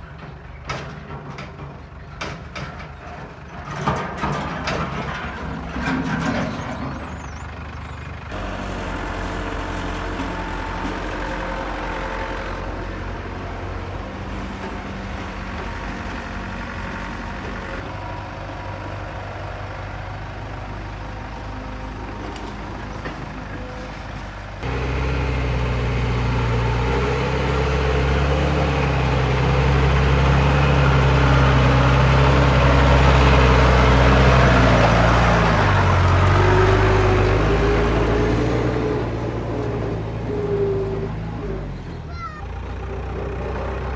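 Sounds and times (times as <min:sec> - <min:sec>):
deep engine working hard: 0:00.0 - 0:43.9
diesel machinery engines running: 0:00.0 - 0:43.9.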